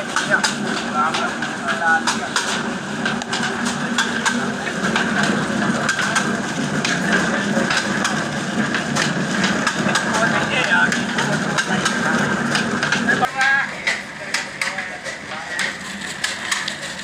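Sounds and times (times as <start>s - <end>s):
diesel engine running: 0.0s - 17.0s
oil expeller clattering: 0.0s - 17.0s.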